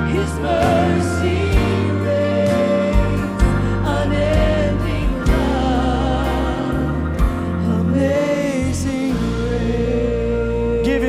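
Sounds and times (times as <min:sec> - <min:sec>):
bass: 0:00.0 - 0:11.0
man and woman singing: 0:00.0 - 0:11.0
worship band playing: 0:00.0 - 0:11.0.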